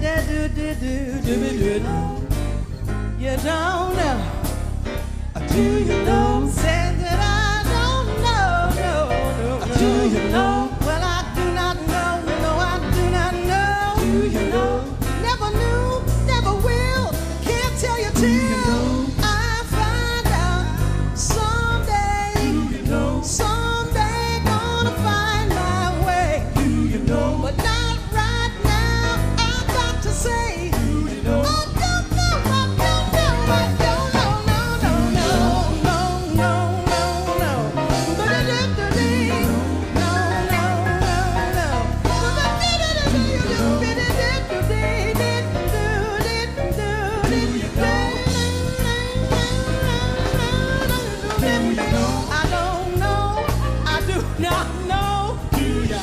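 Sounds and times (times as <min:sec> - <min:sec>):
woman singing wordless vocals: 0:00.0 - 0:02.3, 0:05.4 - 0:56.0
bass: 0:00.0 - 0:56.0
drums: 0:00.0 - 0:56.0.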